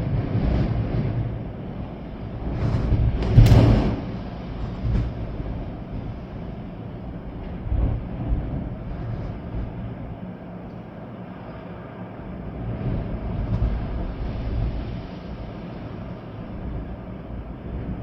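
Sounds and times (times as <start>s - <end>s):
rain: 0.0s - 18.0s
wind gusting through trees: 0.0s - 18.0s
wind rumble on microphone: 0.0s - 18.0s.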